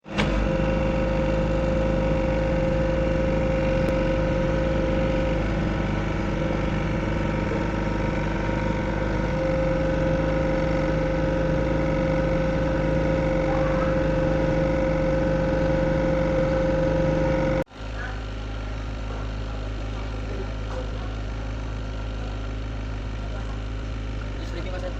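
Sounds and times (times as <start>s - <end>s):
excavator diesel engine idling: 0.0s - 24.9s.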